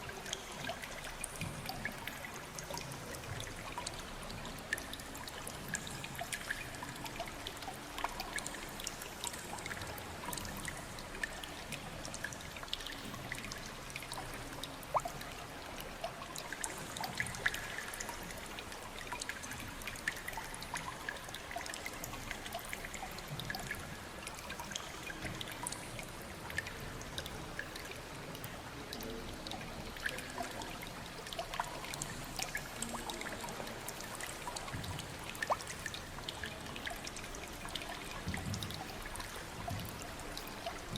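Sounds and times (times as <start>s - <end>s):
water drips and splashes: 0.0s - 40.9s
water trickling: 0.0s - 40.9s.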